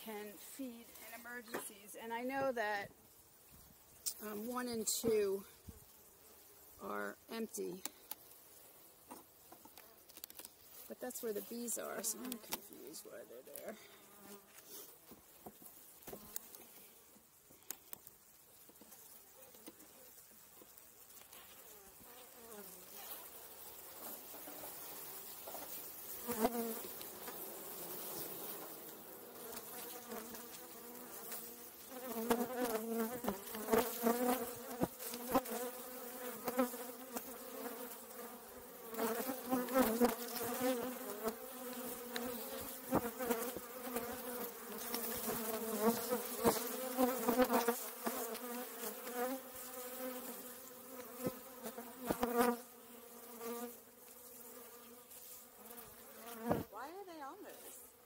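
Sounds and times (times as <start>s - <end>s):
honey bees buzzing: 3.9s - 58.0s.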